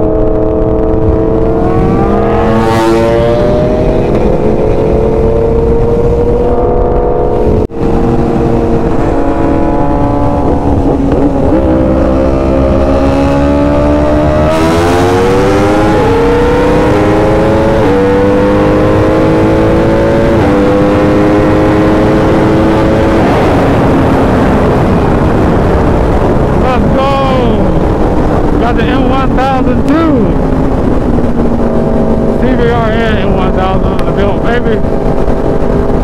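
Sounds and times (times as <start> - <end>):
motorcycle engine at full throttle: 0.0 - 36.0.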